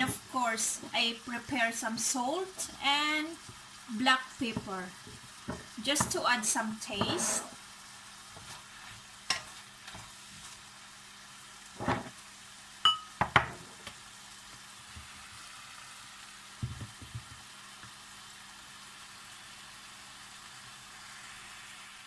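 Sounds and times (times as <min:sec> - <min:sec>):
chicken sizzling in a pan: 0:00.0 - 0:22.0.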